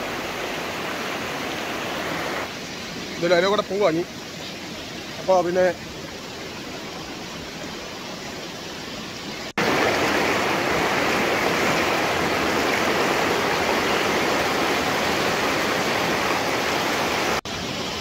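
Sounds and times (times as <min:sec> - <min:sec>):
river rushing through rapids: 0:00.0 - 0:18.0.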